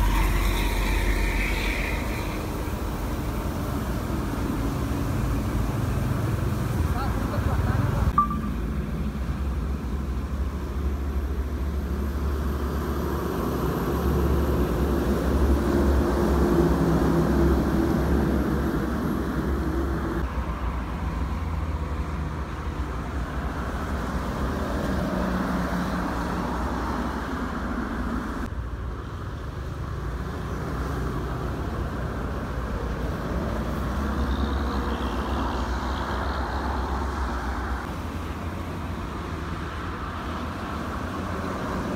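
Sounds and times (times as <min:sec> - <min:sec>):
traffic passing on wet road: 0:00.0 - 0:41.9.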